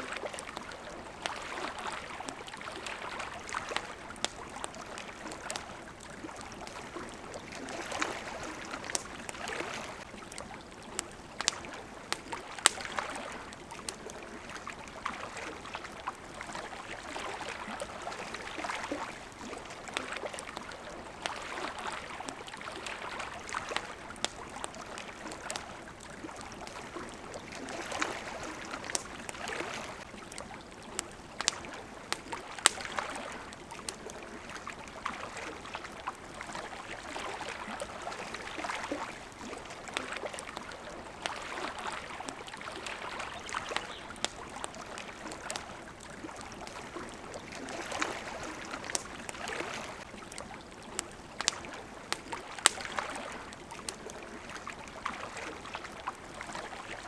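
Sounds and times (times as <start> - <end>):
campfire crackling and popping: 0.0 - 57.0
water washing against shore: 0.0 - 57.0.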